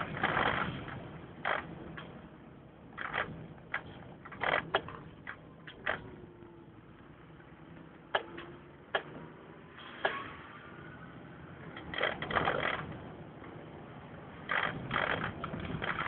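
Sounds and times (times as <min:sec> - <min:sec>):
engine and road noise: 0:00.0 - 0:16.0.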